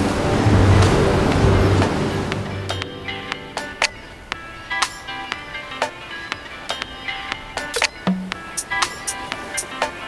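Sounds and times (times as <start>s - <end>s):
sharp percussion hits: 0.0s - 6.0s, 7.6s - 10.0s.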